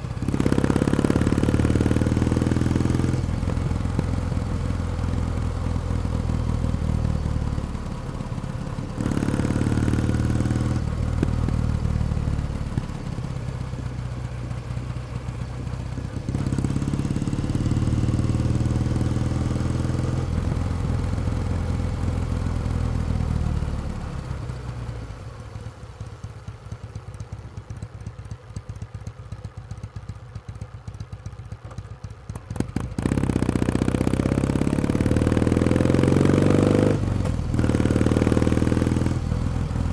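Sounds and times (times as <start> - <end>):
motorcycle engine revving: 0.0 - 24.8, 26.9 - 39.9.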